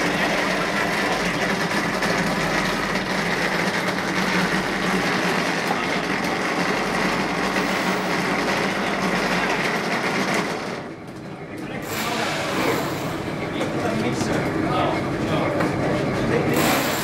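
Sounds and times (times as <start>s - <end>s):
rendering machine humming with whine: 0.0s - 17.0s.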